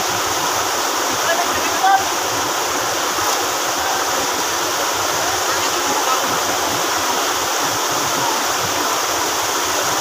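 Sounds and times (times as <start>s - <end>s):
stream rushing over boulders: 0.0s - 10.0s.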